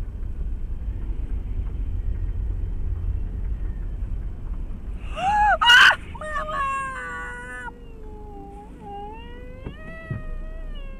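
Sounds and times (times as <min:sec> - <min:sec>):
car engine and road noise: 0:00.0 - 0:10.9.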